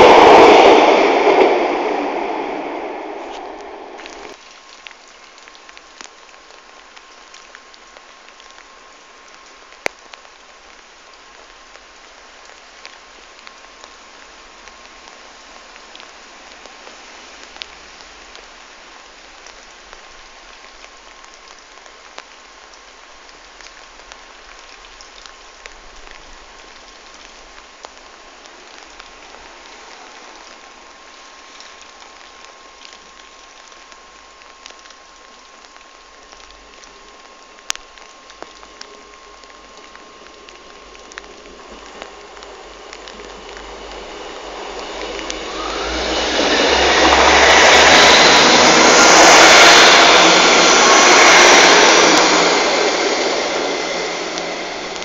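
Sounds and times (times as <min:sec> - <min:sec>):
rain pattering on hard surfaces: 0:03.2 - 0:55.0.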